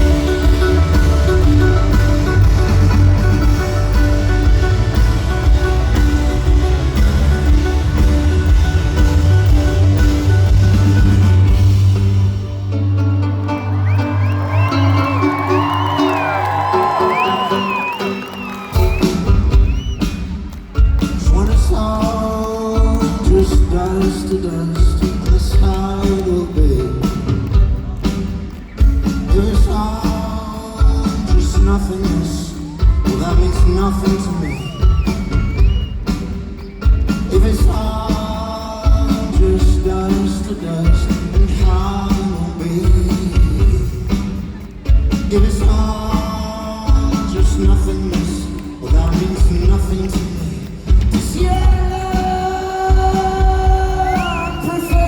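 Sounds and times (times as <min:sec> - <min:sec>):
folk-rock band playing: 0:00.0 - 0:55.0.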